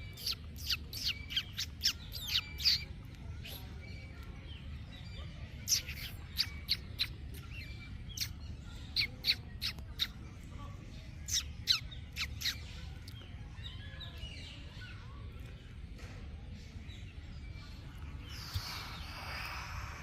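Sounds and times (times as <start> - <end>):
faint bird chirping: 0.0 - 20.0.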